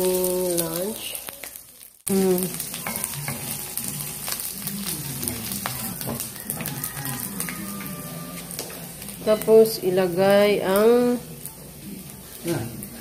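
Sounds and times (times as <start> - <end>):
pork sizzling in oil: 0.0 - 13.0.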